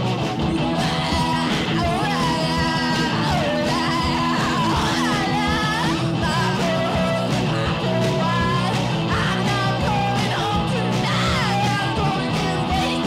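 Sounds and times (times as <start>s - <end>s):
person singing: 0.0s - 13.0s
punk rock band playing: 0.0s - 13.0s.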